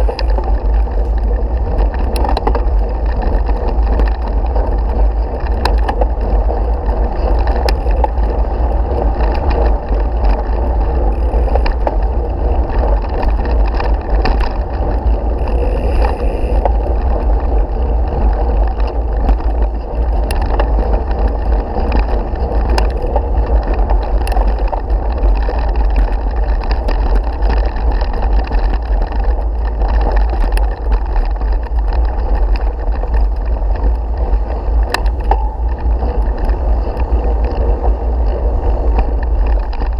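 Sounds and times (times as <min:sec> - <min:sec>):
bike clicks and rattles: 0:00.0 - 0:39.9
bike rumbling over gravel: 0:00.0 - 0:39.9
wind on microphone: 0:00.0 - 0:39.9.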